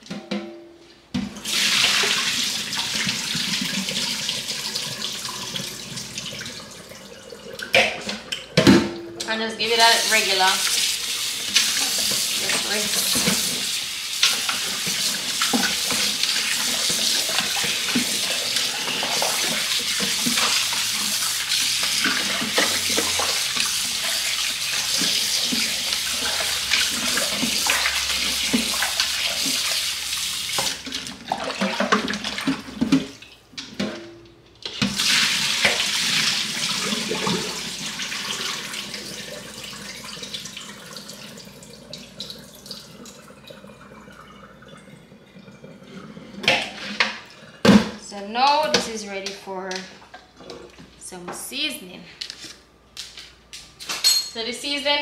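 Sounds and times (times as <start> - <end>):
tap water running into sink: 1.2 - 9.0, 9.7 - 33.8, 34.6 - 49.4.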